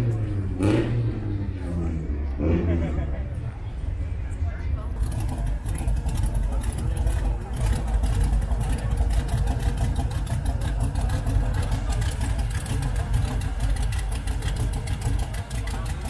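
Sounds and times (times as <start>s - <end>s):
hot rod engine idling: 3.0s - 16.0s.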